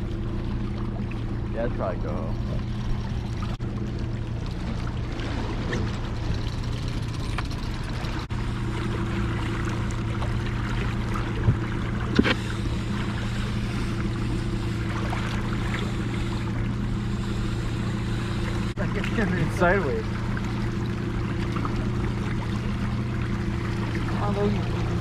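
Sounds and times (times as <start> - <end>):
outboard motor humming: 0.0 - 25.0
water lapping along hull: 0.0 - 25.0.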